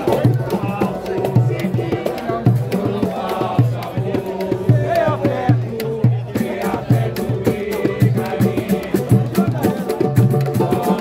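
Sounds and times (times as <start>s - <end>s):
group of voices singing: 0.0s - 11.0s
low drum steady pulse: 0.0s - 11.0s.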